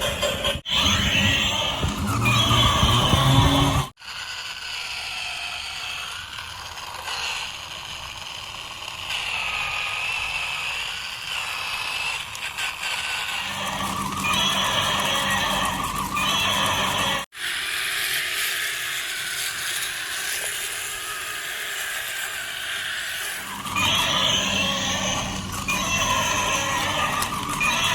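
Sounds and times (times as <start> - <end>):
hissy whir: 0.0 - 27.9
toy vehicle motors whirring: 0.0 - 27.9.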